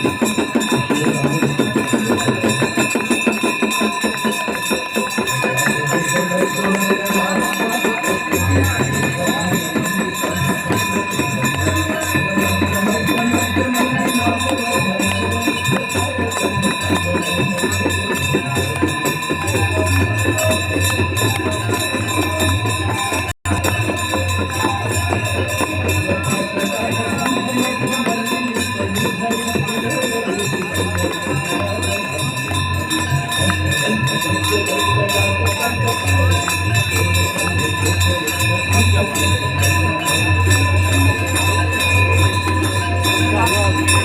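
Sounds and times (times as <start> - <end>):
bells ringing: 0.0 - 44.0
jangling metal percussion: 0.0 - 44.0.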